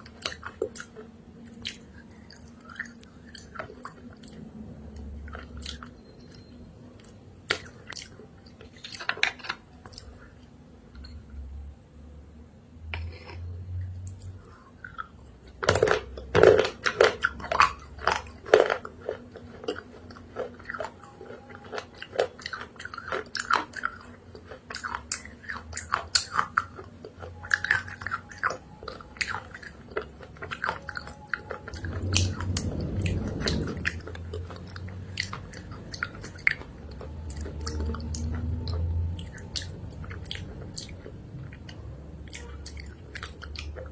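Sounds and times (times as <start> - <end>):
person chewing crunchy paste: 0.0 - 11.3, 12.9 - 43.9.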